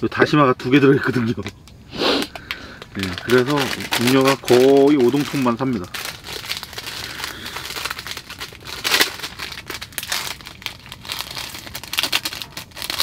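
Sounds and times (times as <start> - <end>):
paper crumpling and tearing: 2.0 - 13.0.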